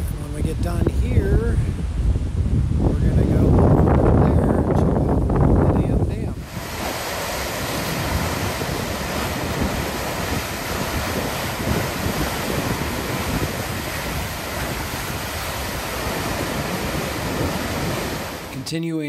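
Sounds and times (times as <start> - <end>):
water rushing: 2.4 - 18.8.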